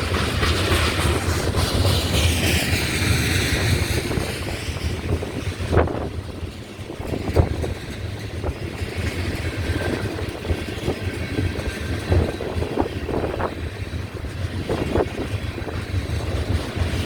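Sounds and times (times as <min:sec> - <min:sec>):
freight train rumbling past: 0:00.0 - 0:17.0
knocks from train wheels: 0:00.0 - 0:17.0
wind buffeting microphone: 0:00.0 - 0:17.0.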